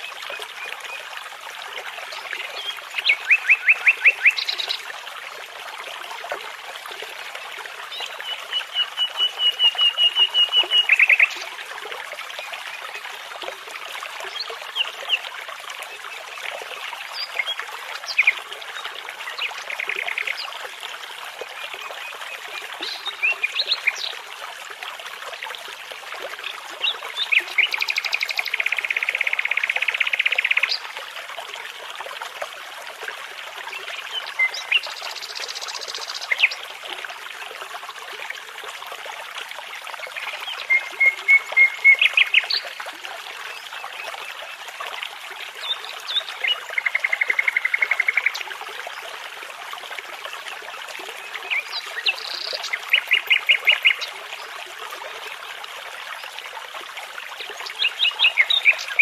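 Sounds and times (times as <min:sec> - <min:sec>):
babbling brook: 0:00.0 - 0:59.0.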